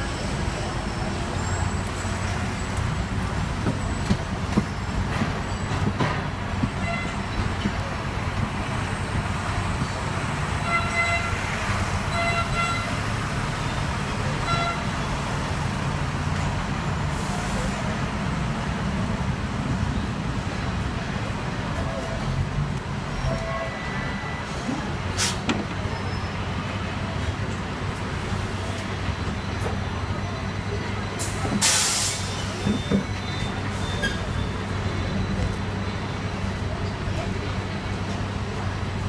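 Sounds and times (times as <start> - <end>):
tram rumbling on rails: 0.0 - 39.0.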